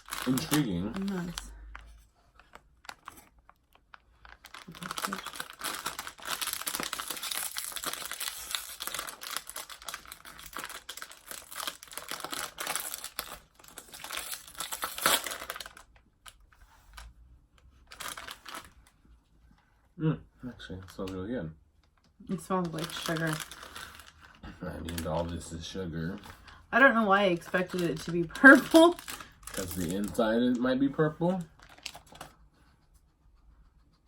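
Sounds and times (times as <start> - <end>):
plastic wrapper crinkling: 0.0 - 17.1, 17.8 - 19.0, 21.8 - 32.4.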